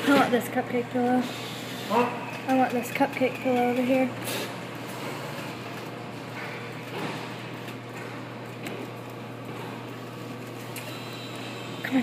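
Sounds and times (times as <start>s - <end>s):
claw machines electrical hum: 0.0s - 12.0s.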